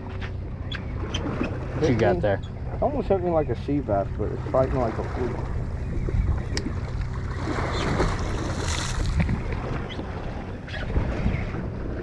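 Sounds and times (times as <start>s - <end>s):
boat engine droning: 0.0s - 12.0s
water washing around hull: 0.0s - 12.0s
wind buffeting microphone: 0.0s - 12.0s.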